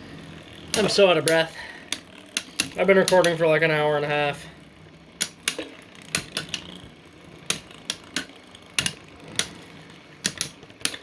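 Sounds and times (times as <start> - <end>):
spinning tops clacking: 0.4 - 3.6, 5.1 - 11.0.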